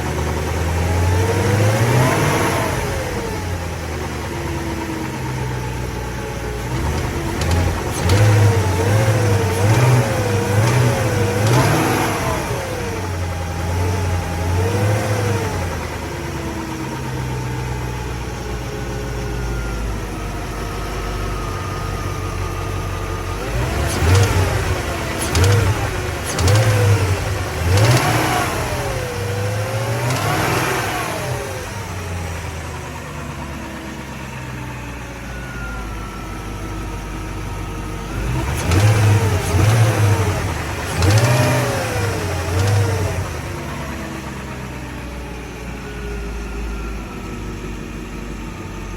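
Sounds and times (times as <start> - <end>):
car engine idling and revving: 0.0 - 48.9.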